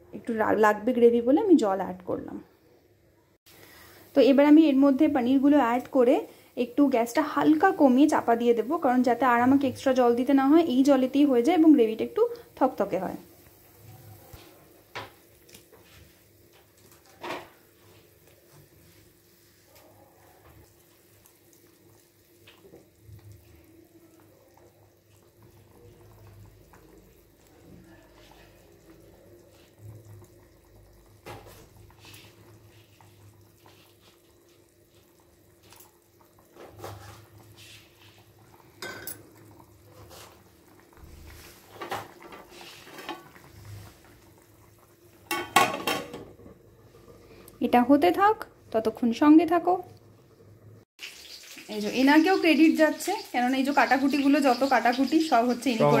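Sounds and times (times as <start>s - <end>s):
curry bubbling: 3.5s - 56.0s.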